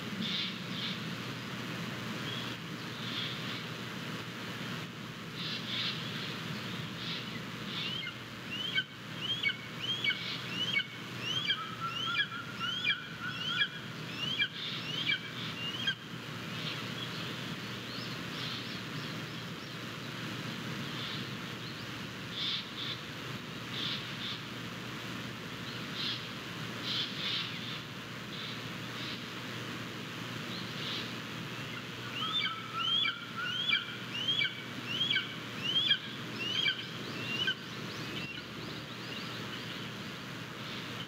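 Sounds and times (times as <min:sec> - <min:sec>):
steady outdoor hiss: 0:00.0 - 0:41.0.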